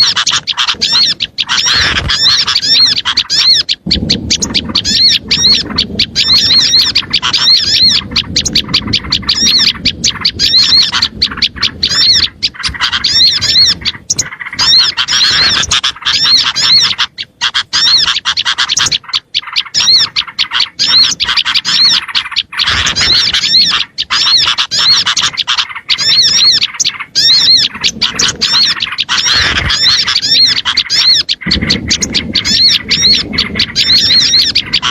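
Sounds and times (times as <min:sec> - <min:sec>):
small birds chirping agitatedly: 0:00.0 - 0:34.9.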